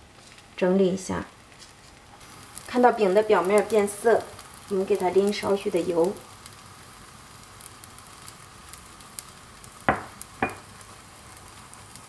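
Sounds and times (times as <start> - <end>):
dough sizzling in a frying pan: 0.0 - 12.0
faint crackles: 0.0 - 12.0.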